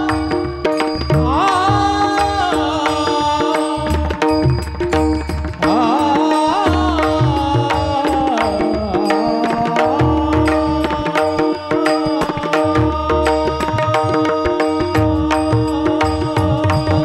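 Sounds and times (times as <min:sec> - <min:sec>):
person singing ornamented melody: 0:00.0 - 0:05.0, 0:05.6 - 0:17.0.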